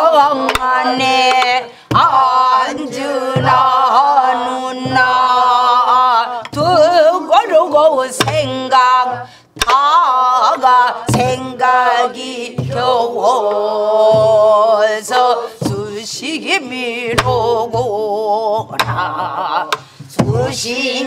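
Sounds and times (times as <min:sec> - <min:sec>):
voices singing folk song: 0:00.0 - 0:21.0
barrel drum strokes: 0:00.4 - 0:09.8, 0:10.4 - 0:16.1, 0:18.7 - 0:21.0.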